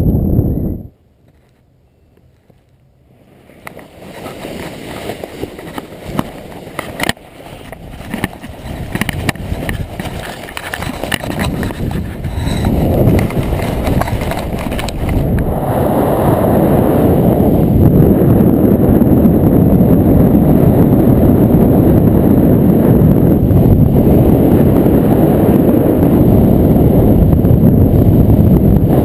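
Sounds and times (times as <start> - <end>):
wind on microphone: 0.0 - 1.0, 3.2 - 29.0.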